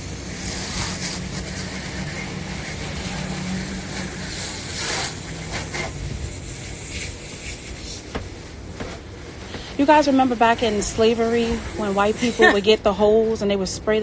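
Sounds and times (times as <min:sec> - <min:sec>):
water hose spraying: 0:00.0 - 0:13.2.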